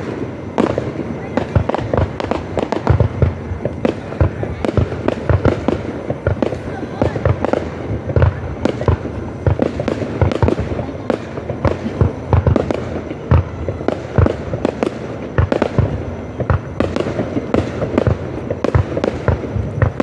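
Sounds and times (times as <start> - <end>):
crackling rumble: 0.0 - 20.0
fireworks bangs and booms: 0.0 - 20.0.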